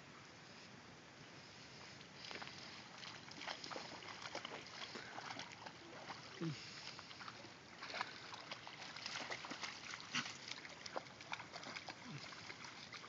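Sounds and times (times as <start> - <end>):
rushing water: 2.2 - 13.0
dogs splashing in water: 2.3 - 13.0.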